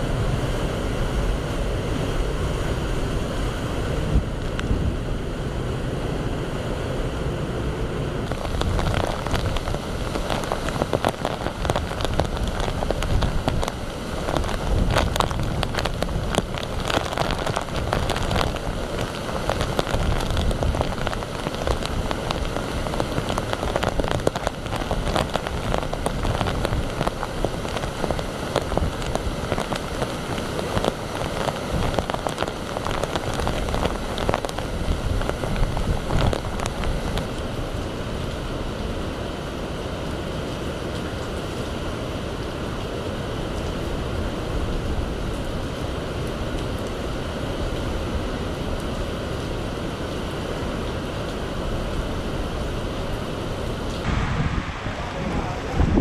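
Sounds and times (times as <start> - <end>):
heavy rain pouring: 0.0 - 56.0
rushing water: 0.0 - 56.0
storm surf: 0.0 - 56.0
wind: 0.0 - 56.0.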